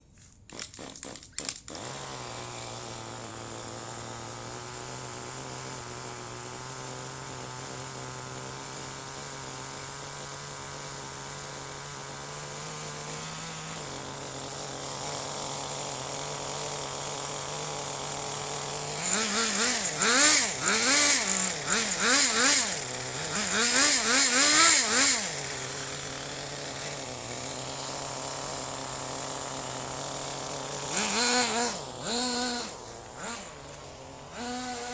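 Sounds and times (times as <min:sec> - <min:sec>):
small model car engine revving: 0:00.5 - 0:34.9.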